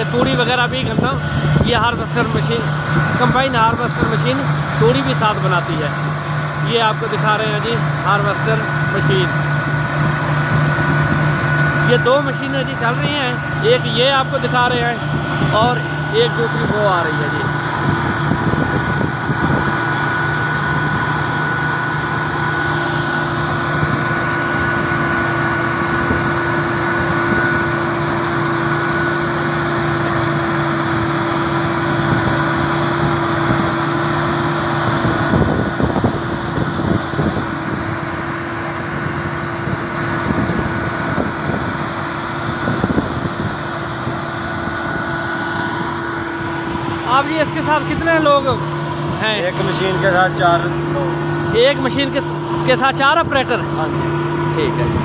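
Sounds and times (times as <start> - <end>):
combine harvester engine drone: 0.0 - 55.0
high steady whine: 0.0 - 55.0.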